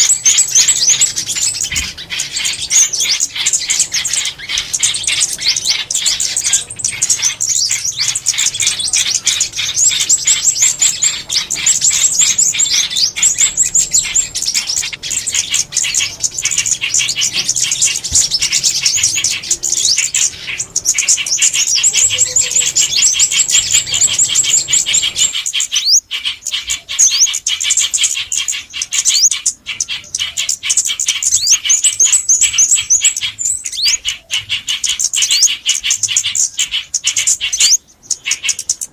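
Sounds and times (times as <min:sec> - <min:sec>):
low background hum: 0:00.0 - 0:38.9
songbirds chirping and trilling: 0:00.0 - 0:38.9.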